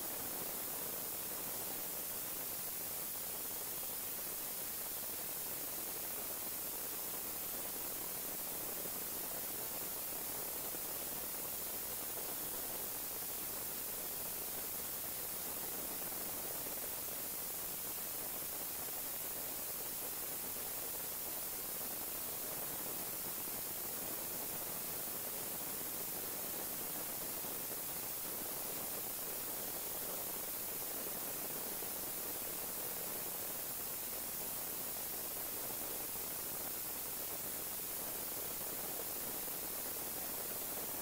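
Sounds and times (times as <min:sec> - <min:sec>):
steady static hiss: 0:00.0 - 0:41.0.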